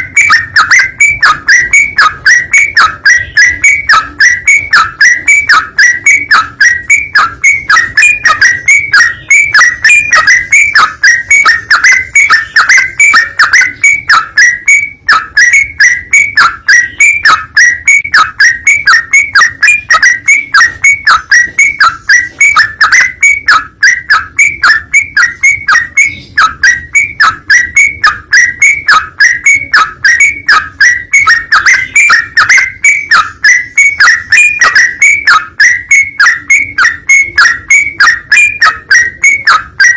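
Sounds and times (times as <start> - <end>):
bulbul calling rapidly: 0.0 - 39.9.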